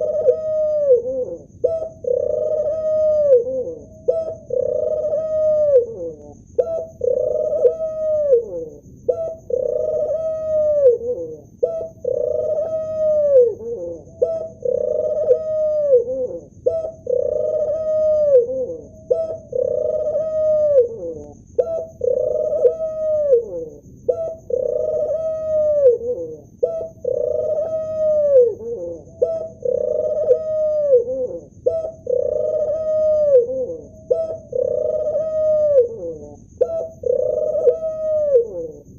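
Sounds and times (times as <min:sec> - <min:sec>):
dove cooing: 0:00.0 - 0:38.9
faint high whine: 0:00.0 - 0:38.9.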